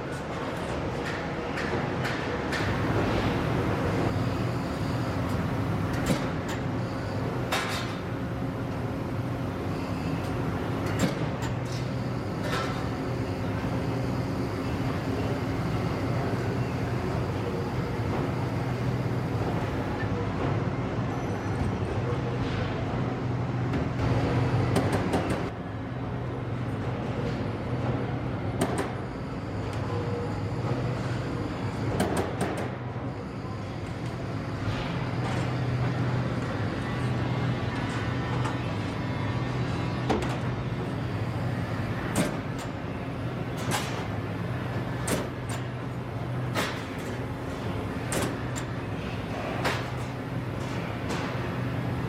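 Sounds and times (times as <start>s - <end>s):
industrial machinery humming: 0.0s - 52.0s.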